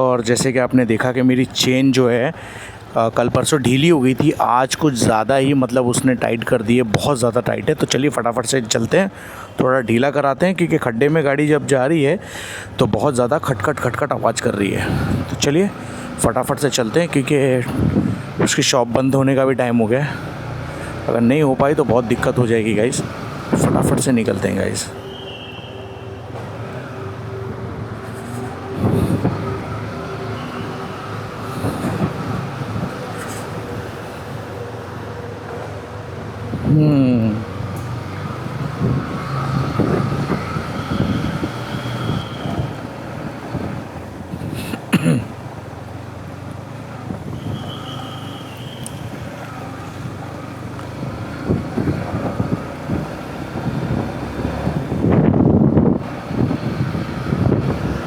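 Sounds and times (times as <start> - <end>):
road and wind noise: 0.0 - 58.0.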